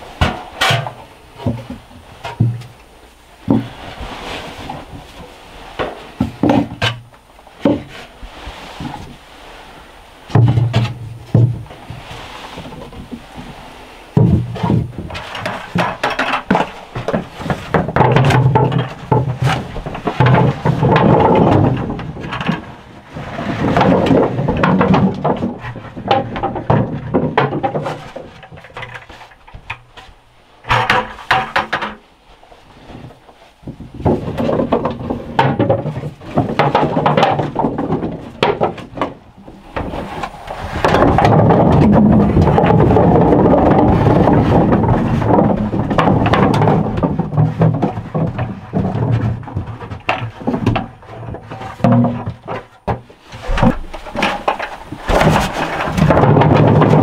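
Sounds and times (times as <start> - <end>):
potatoes clattering onto wooden shelves: 0.0 - 2.8, 3.4 - 8.1, 10.3 - 32.0, 32.8 - 57.0.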